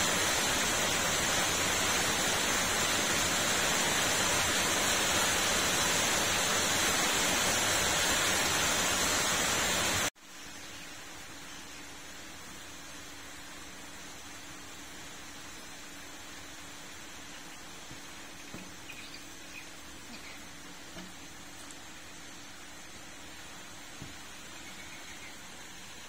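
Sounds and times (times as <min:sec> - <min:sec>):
faint hiss: 0:00.0 - 0:26.0
loud steady hiss: 0:00.0 - 0:26.0.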